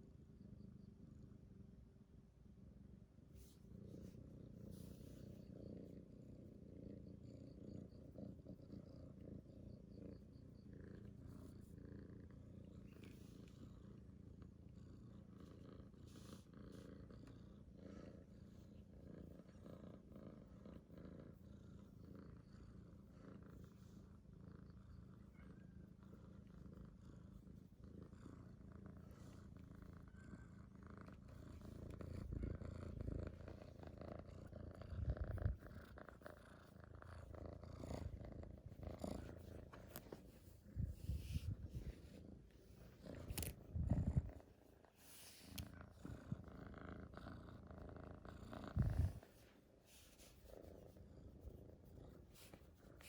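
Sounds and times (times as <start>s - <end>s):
kitten purring: 0.0s - 53.0s.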